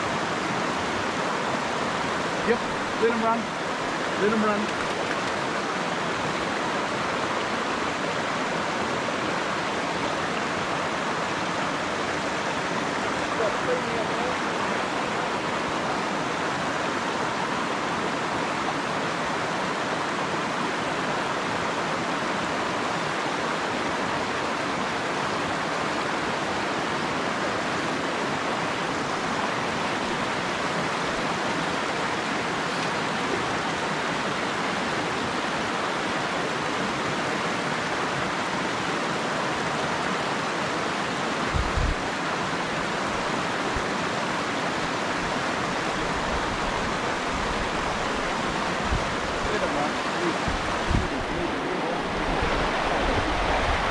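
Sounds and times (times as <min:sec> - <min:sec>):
mountain stream rushing over rocks: 0:00.0 - 0:53.9.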